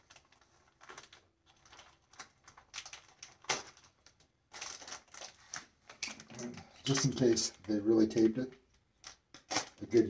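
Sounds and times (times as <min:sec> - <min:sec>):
packet rustling and crinkling: 0:00.0 - 0:10.0.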